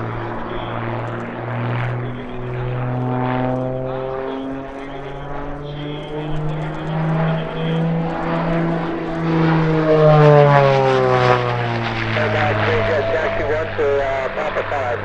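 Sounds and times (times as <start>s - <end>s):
propeller airplane passing: 0.0s - 15.0s.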